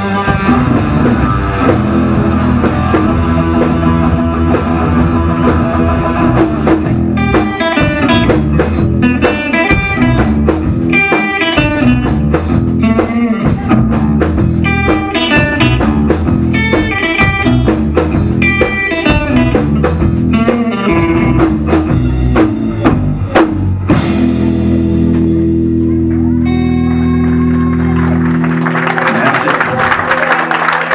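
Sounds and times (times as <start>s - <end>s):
rock band playing: 0.0s - 30.9s.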